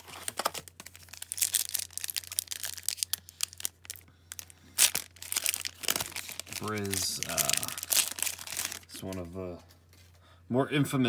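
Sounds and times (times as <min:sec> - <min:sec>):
foil wrapper tearing and crinkling: 0:00.0 - 0:09.2.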